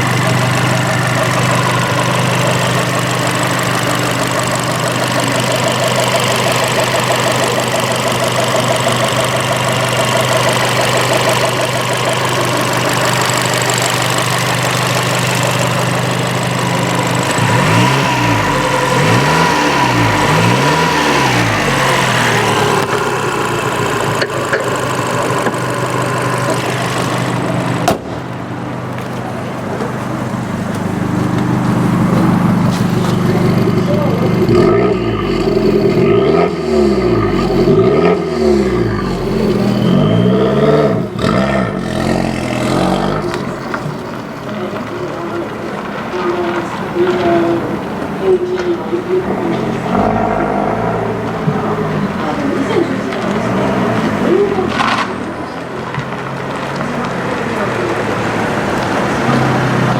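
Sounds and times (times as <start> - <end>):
car engine idling: 0.0 - 59.9
engine revving: 0.0 - 59.9.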